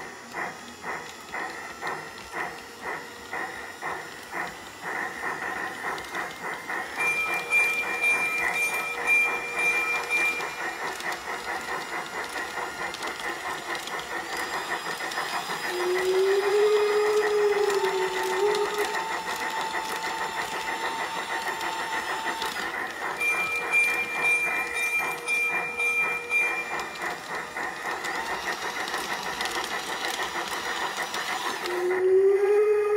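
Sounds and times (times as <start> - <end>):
model steam locomotive chuffing: 0.0 - 32.9.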